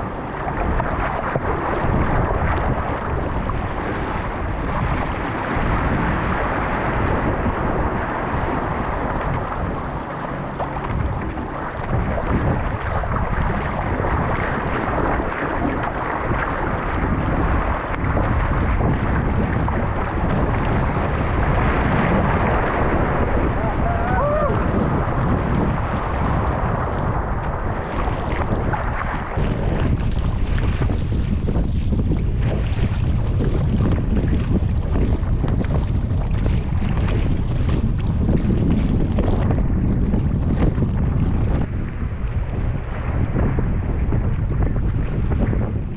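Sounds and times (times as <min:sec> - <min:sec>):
rushing sea water and waves: 0:00.0 - 0:45.9
wind buffeting microphone: 0:00.0 - 0:45.9.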